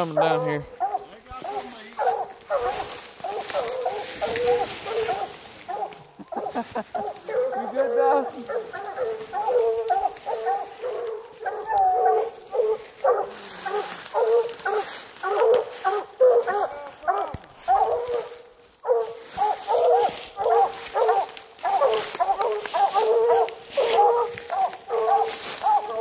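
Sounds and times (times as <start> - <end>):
hounds barking rapidly: 0.0 - 26.0.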